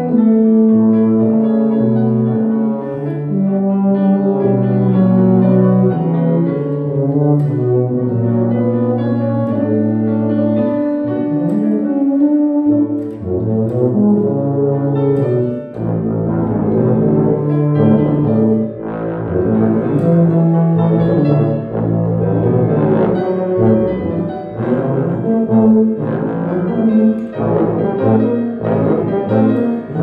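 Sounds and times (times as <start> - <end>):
piano accompaniment: 0.0 - 30.0
tubas playing low notes: 0.0 - 30.0.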